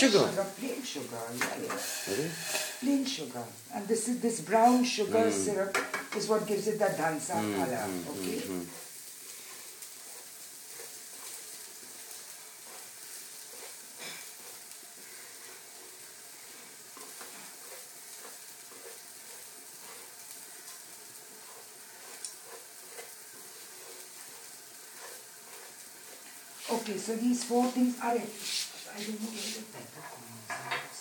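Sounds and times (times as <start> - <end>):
rice sizzling in hot oil: 0.0 - 31.0
wooden spoon scraping pan: 0.2 - 3.3, 4.0 - 30.9.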